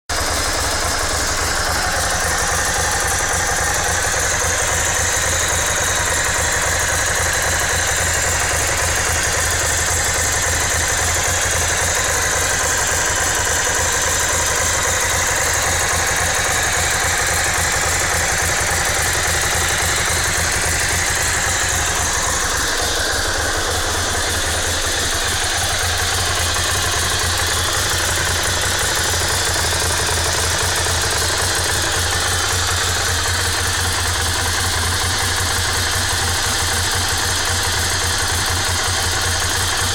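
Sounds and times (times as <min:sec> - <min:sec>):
motorcycle engine idling: 0:00.1 - 0:39.9.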